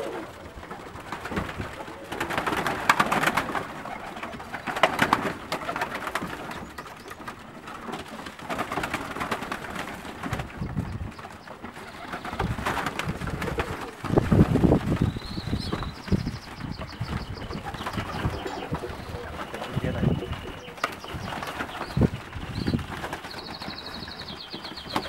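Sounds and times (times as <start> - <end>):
pigeons cooing: 0.0 - 8.2, 9.2 - 25.0
pigeon wings clattering: 0.0 - 25.0.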